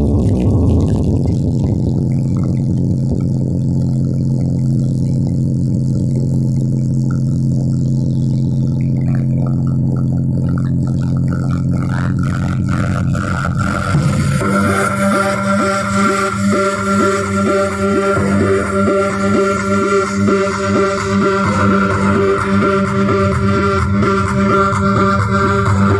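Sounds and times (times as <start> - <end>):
deep bass tone: 0.0 - 25.9
dense low rumble: 0.0 - 25.9.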